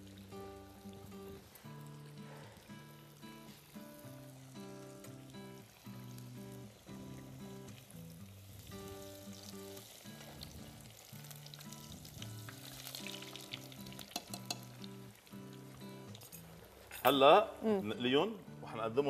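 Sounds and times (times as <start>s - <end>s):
aubergine frying in oil: 0.0s - 18.4s
background music with held notes: 0.0s - 19.0s.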